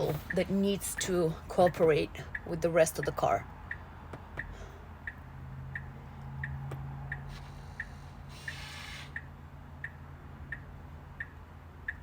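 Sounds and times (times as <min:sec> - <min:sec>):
low steady hum: 0:00.0 - 0:12.0
turn signal ticking: 0:00.0 - 0:12.0.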